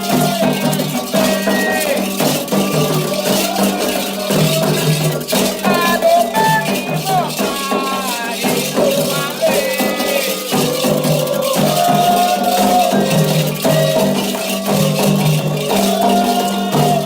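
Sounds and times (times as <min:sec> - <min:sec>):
rattle shaking: 0:00.0 - 0:17.0
sung chant in long notes: 0:00.0 - 0:17.0.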